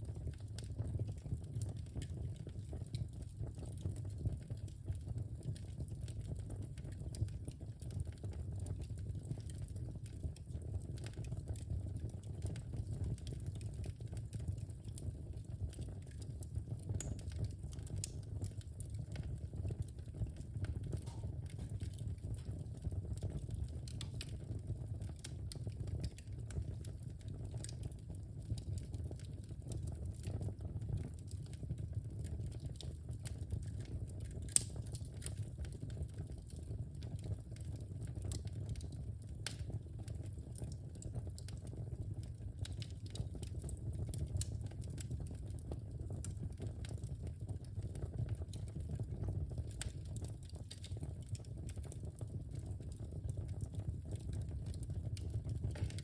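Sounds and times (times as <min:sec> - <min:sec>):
fire flames rumbling: 0:00.0 - 0:56.0
fire popping and snapping: 0:00.0 - 0:56.0.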